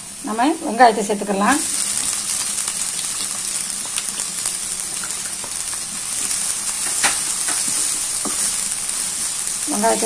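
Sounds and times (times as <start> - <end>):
onions sizzling in hot oil: 0.0 - 10.0
spatula stirring in pan: 1.9 - 10.0.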